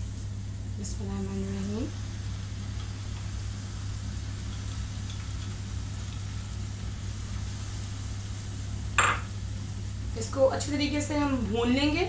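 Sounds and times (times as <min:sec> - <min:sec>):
faint hiss: 0:00.0 - 0:12.0
steady low hum: 0:00.0 - 0:12.0.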